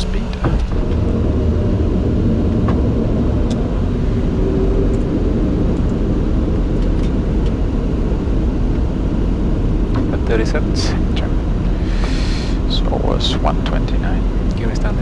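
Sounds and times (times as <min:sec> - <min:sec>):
low rumble of cockpit airflow: 0:00.0 - 0:15.0.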